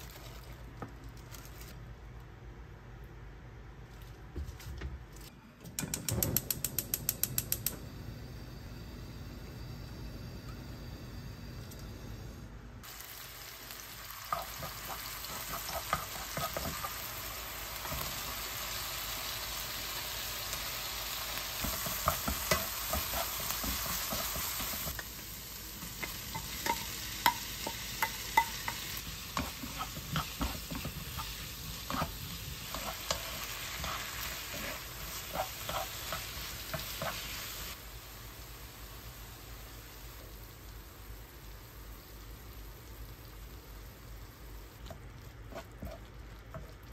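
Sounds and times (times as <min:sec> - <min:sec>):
oil sizzling in a wok: 0:07.9 - 0:46.9.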